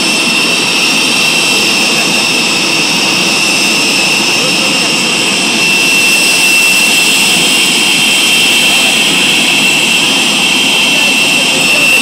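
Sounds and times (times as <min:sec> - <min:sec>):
jet engine running: 0:00.0 - 0:12.0.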